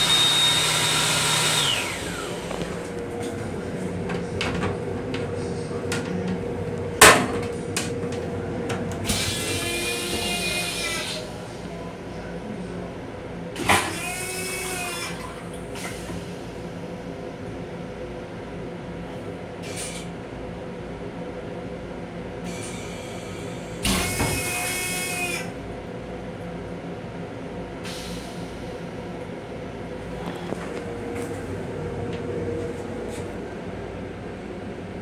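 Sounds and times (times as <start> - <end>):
railcar running hum: 0.0 - 35.0.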